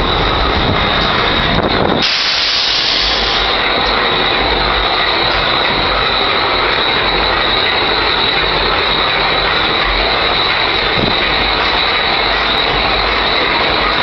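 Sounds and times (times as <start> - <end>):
diesel locomotive running: 0.0 - 14.0
high turbocharger whine: 0.0 - 14.0.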